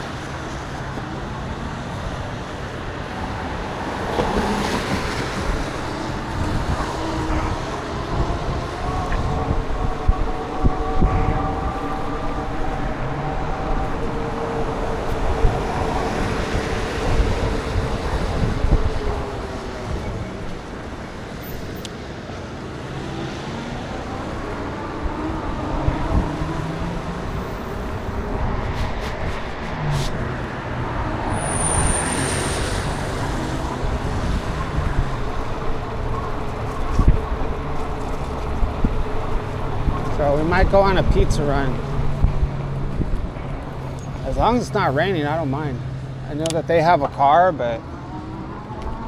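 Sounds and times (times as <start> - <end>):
wind on microphone: 0.0 - 21.9, 22.6 - 44.9
road traffic passing: 0.0 - 49.0.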